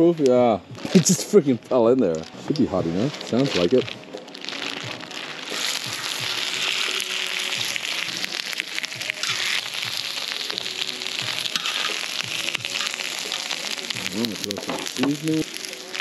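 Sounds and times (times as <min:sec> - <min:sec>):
shrimp sizzling in hot oil: 0:00.3 - 0:01.5, 0:02.2 - 0:16.0.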